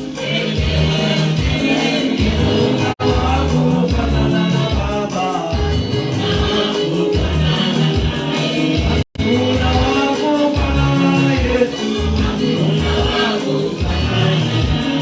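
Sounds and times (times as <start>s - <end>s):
band with strong bass: 0.0s - 15.0s
voices singing: 0.0s - 15.0s.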